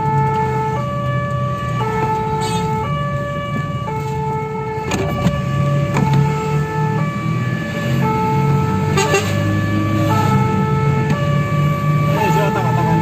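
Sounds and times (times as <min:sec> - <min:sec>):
two-tone siren: 0:00.0 - 0:13.0.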